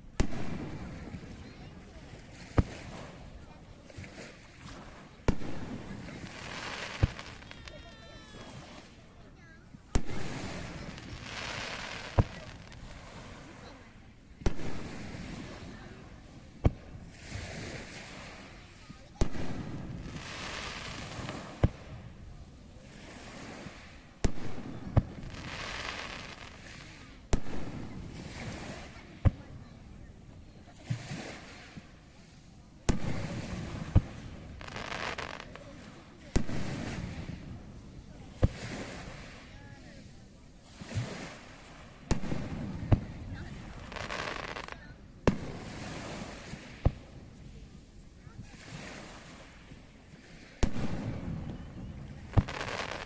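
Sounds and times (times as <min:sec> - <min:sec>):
fireworks bangs: 0:00.0 - 0:03.6, 0:04.7 - 0:09.1, 0:09.7 - 0:22.2, 0:23.6 - 0:29.8, 0:32.8 - 0:47.3, 0:50.6 - 0:53.0.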